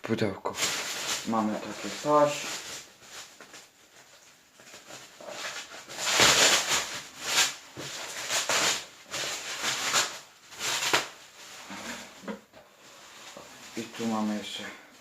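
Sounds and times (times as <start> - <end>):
packaging rustling and crinkling: 0.5 - 15.0.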